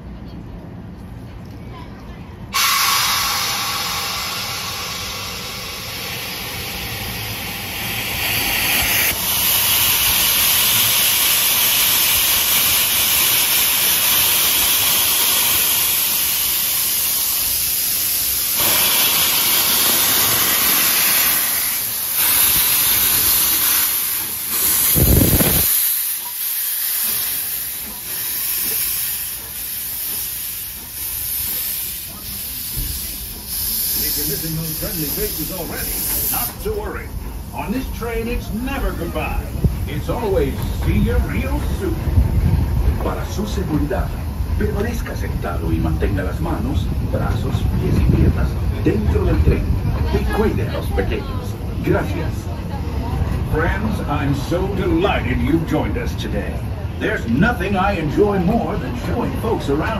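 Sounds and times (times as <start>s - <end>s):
steam locomotive hissing: 2.4s - 59.9s.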